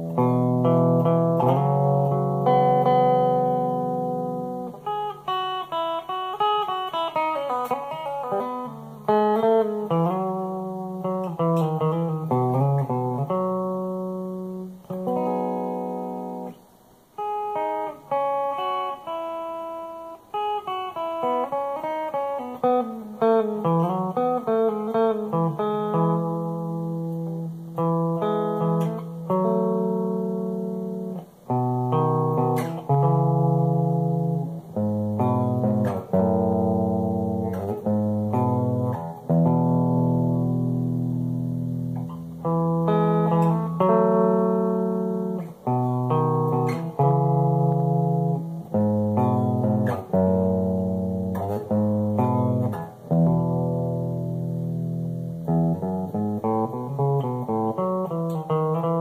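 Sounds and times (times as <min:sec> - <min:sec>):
clean solo guitar: 0:00.0 - 0:59.0.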